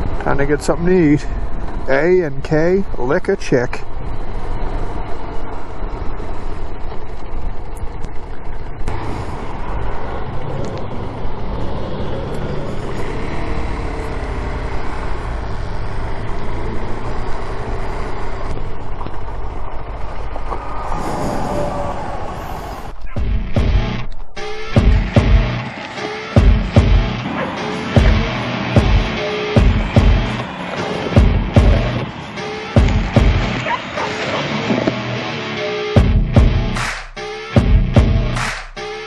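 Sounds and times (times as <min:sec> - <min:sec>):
car engine and tyre noise: 0:00.0 - 0:39.0.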